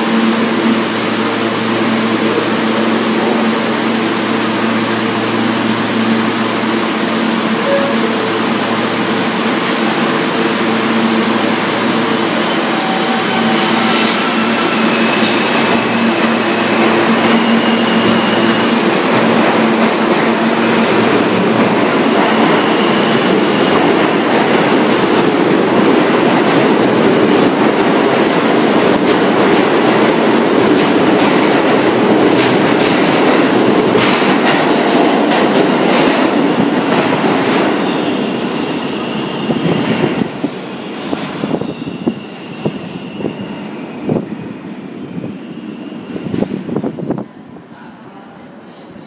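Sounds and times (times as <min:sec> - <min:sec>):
train whine: 0:00.0 - 0:48.3
subway train rumbling past: 0:00.0 - 0:49.0.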